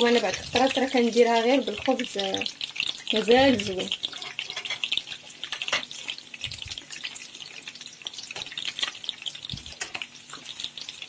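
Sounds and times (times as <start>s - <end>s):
bread frying in sizzling oil: 0.0s - 11.0s.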